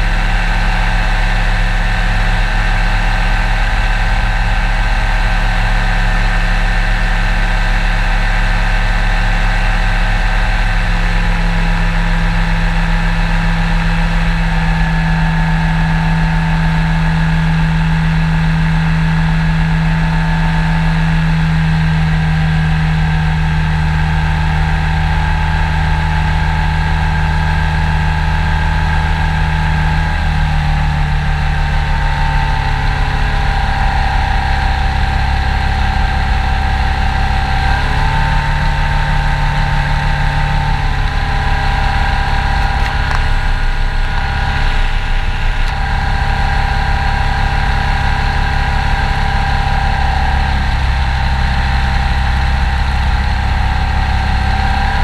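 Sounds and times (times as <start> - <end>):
engine and propeller running: 0.0 - 55.0.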